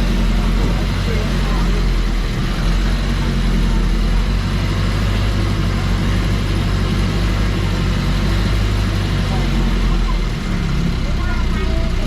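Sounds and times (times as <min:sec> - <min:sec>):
rush of travel noise: 0:00.0 - 0:12.0
vehicle engine humming: 0:00.0 - 0:12.0.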